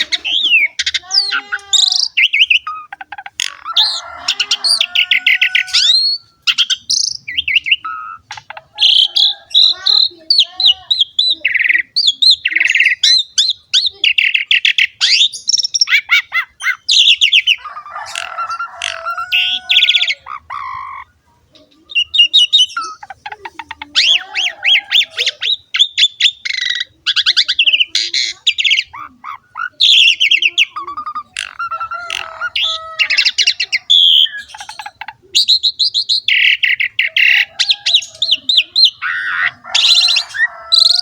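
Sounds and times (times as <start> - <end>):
starling singing: 0.0 - 41.0.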